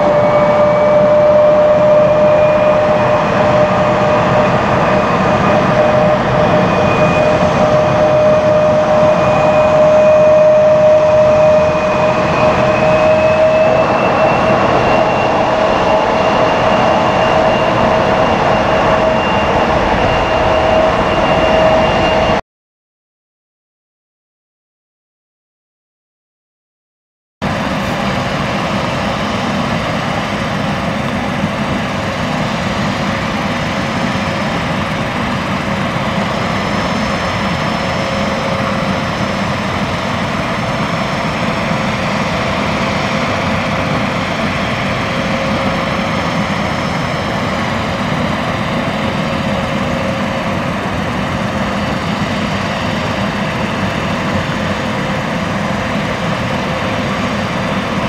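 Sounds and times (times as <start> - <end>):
jet turbines running: 0.0 - 22.4, 27.4 - 58.0.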